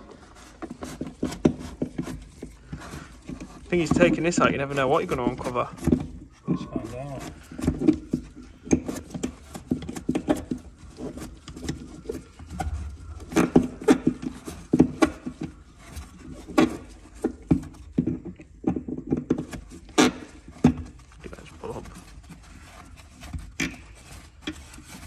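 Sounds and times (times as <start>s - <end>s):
tool tray knocks and rubbing: 0.0s - 25.0s.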